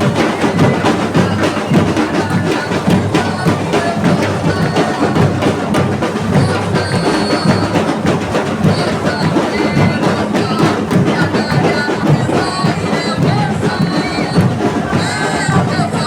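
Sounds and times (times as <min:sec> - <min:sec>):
samba percussion: 0:00.0 - 0:16.0.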